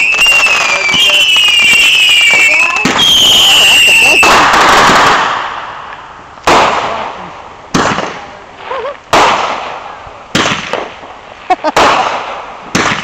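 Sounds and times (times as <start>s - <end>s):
fireworks exploding: 0.0s - 13.0s.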